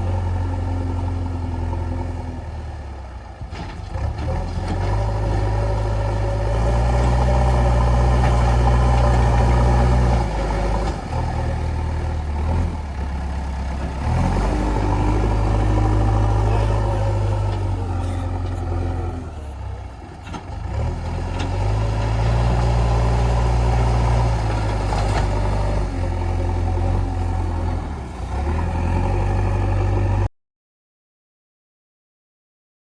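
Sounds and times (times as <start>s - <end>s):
diesel engine revving under load: 0.0s - 30.3s.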